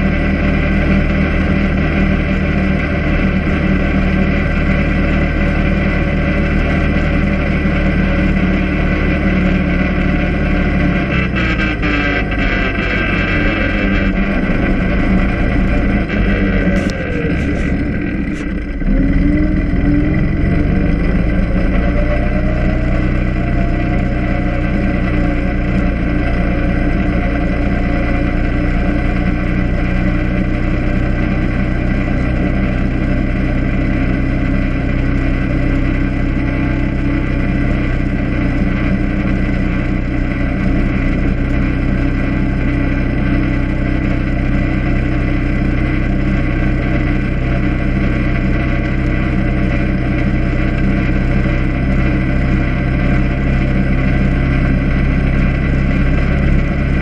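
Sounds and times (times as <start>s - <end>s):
quad engine running: 0.0s - 57.0s.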